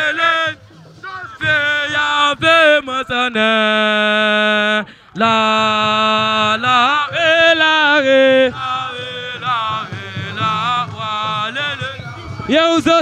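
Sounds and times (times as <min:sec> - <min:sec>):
low drum beat: 0:00.0 - 0:13.0.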